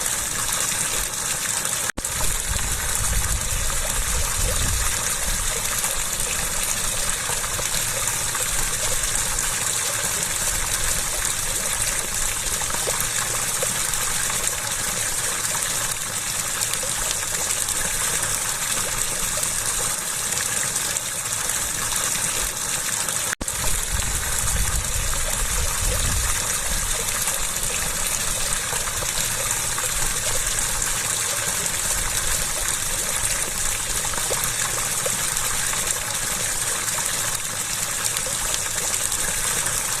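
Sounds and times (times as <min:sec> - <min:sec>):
water rushing and splashing: 0:00.0 - 0:40.0.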